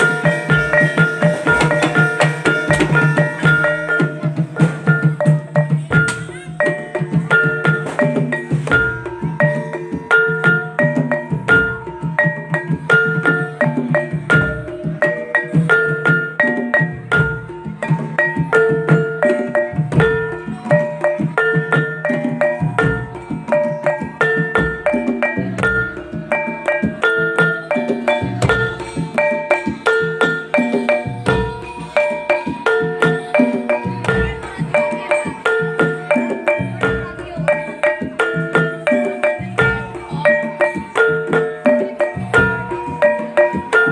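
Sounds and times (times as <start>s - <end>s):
busy drumming: 0.0s - 43.9s.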